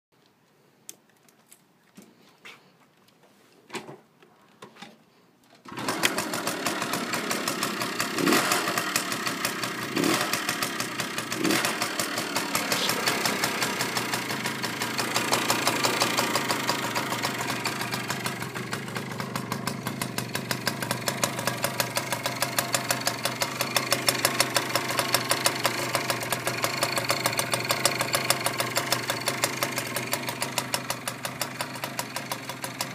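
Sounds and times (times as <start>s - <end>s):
moped engine starting and idling: 5.6s - 32.9s.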